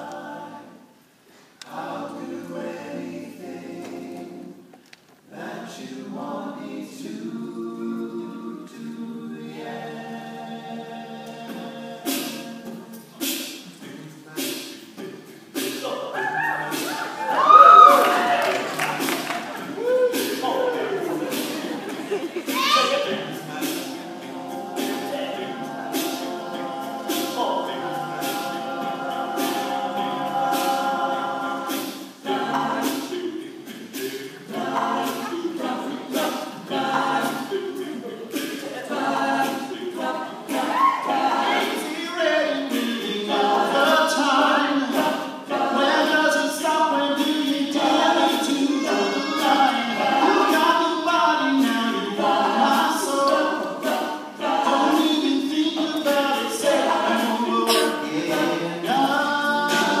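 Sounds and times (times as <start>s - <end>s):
male group singing in harmony: 0.0s - 1.0s, 1.6s - 4.7s, 5.3s - 60.0s
percussive beat: 11.5s - 60.0s.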